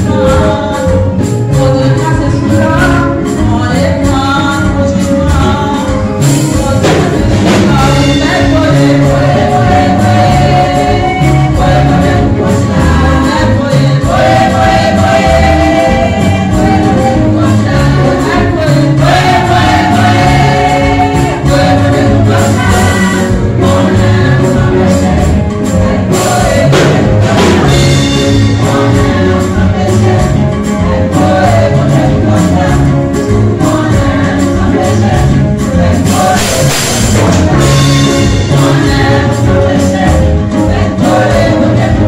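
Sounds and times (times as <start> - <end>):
bass line: 0.0 - 42.0
percussion: 0.0 - 42.0
women's choir singing: 7.1 - 42.0.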